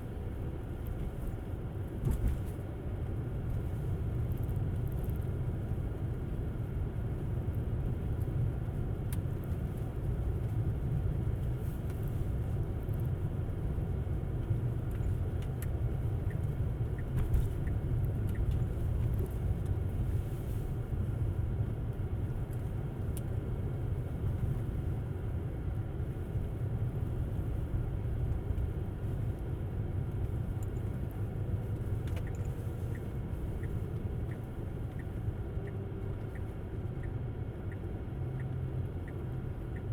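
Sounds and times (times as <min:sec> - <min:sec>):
tyre noise on snowy road: 0:00.0 - 0:39.9.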